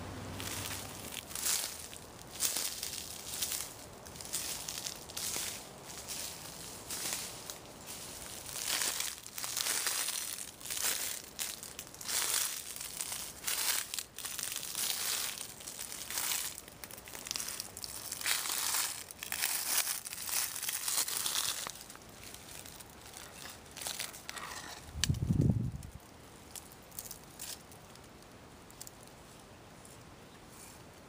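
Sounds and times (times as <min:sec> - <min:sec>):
footsteps crunching through dry leaves: 0:00.1 - 0:28.0.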